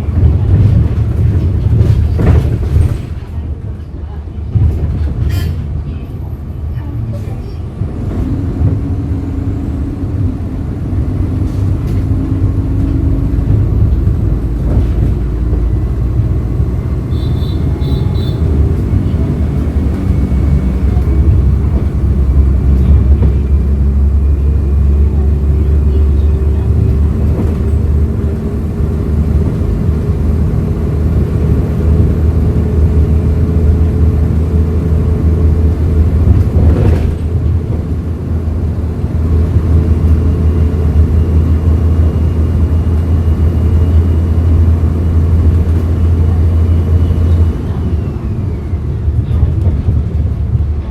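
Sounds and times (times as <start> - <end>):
bus engine running: 0.0 - 50.9.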